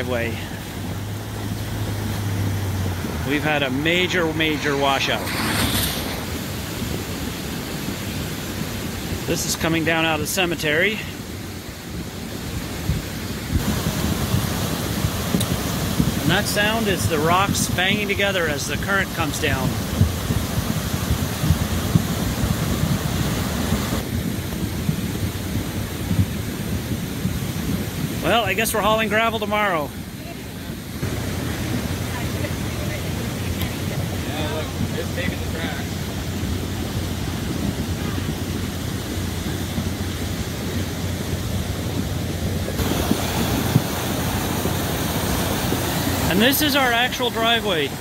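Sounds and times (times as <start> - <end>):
muddy water pouring through gap: 0.0 - 24.1, 25.2 - 48.0
floodwater rushing: 0.0 - 48.0.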